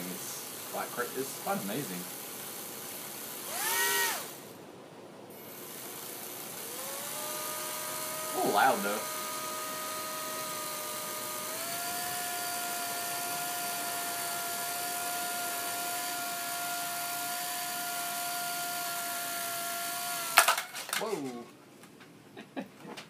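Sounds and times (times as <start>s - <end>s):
electric motors high whine: 0.0s - 4.6s, 5.3s - 20.4s.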